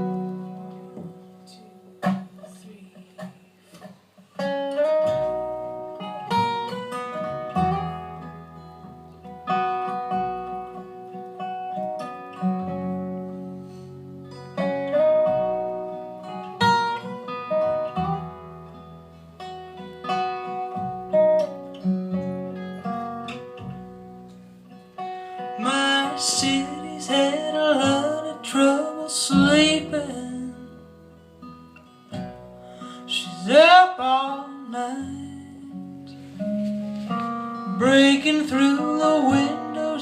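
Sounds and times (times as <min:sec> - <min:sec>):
acoustic guitar picking and strumming: 0:00.0 - 0:40.0.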